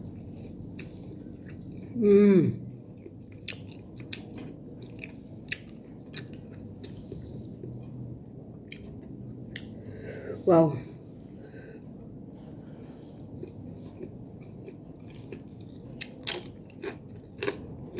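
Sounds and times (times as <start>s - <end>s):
person chewing food: 0.0s - 2.0s, 2.8s - 10.1s, 12.4s - 17.9s.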